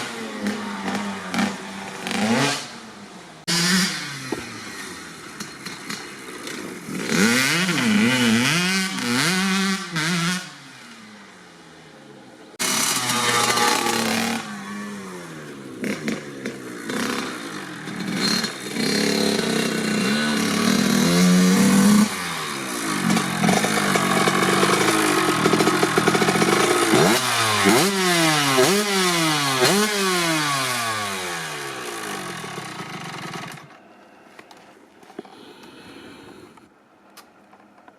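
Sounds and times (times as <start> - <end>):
two-stroke engine revving hard: 0.0 - 5.5, 6.8 - 11.0, 12.6 - 33.7.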